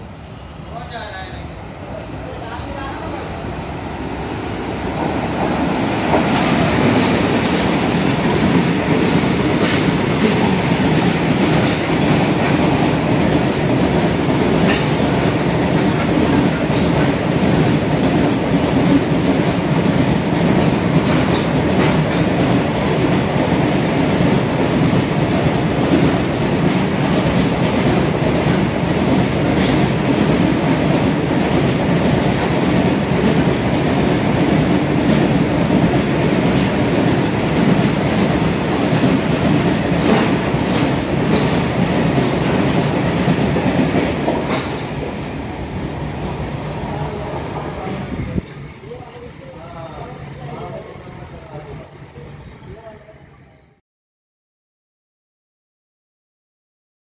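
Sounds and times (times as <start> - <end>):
train wheels rumbling on rails: 0.8 - 52.0.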